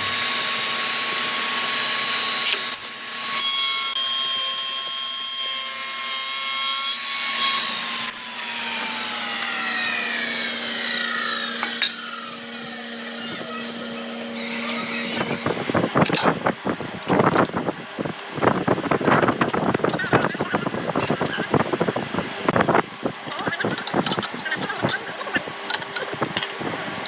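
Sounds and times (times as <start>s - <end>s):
power tool whining: 0.0s - 27.0s.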